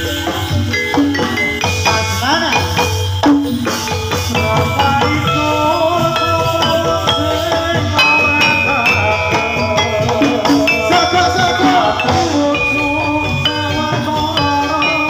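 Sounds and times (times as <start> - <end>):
drumming: 0.0 - 15.0.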